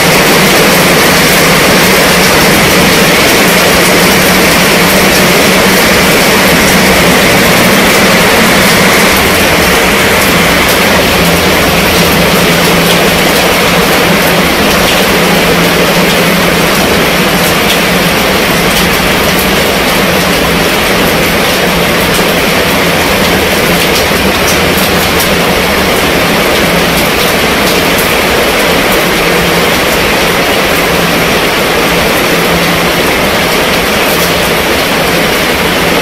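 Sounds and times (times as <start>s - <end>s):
heavy rain on tent roof: 0.0s - 36.0s.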